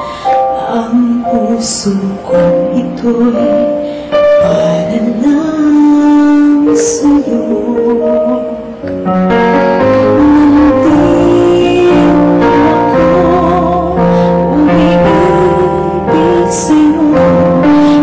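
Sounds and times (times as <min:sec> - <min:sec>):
woman singing with vibrato: 0:00.0 - 0:08.8, 0:09.9 - 0:18.0
musical accompaniment: 0:00.0 - 0:18.0.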